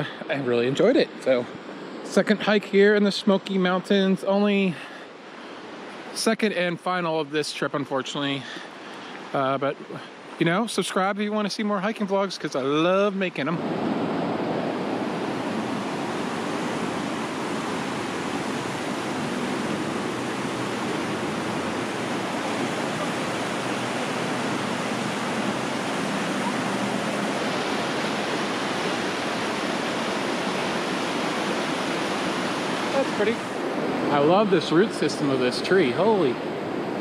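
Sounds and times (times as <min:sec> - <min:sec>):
river rushing over boulders: 0:00.0 - 0:37.0.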